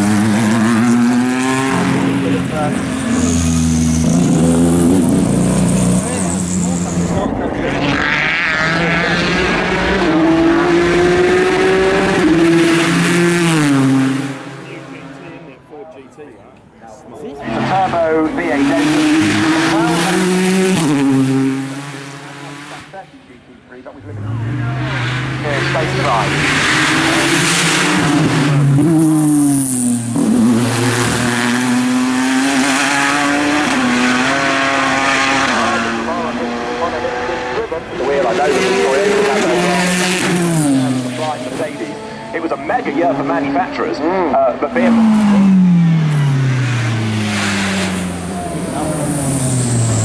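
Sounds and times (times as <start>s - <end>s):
race car engine at full throttle: 0.0s - 50.0s.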